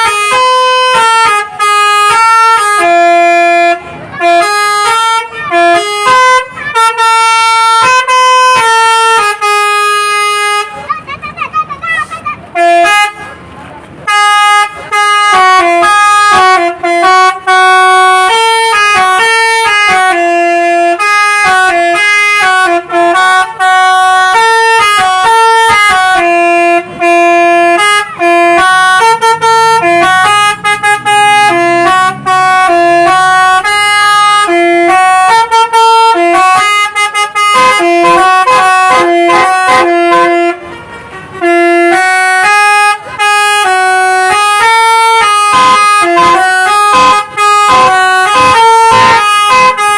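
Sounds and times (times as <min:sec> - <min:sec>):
multi-tone bus air horn tune: 0:00.0 - 0:49.9.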